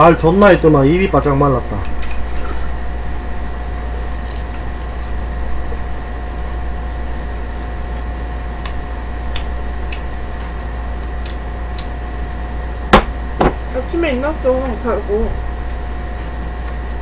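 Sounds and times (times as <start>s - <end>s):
machine hum with thin whine: 0.0s - 17.0s.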